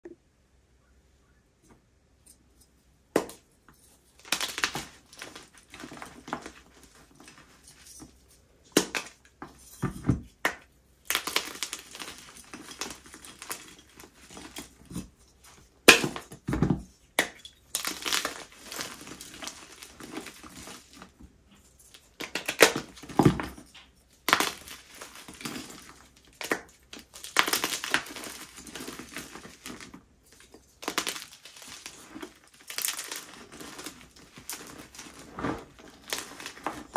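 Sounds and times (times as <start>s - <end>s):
chalk crunching and crumbling: 2.2s - 36.9s.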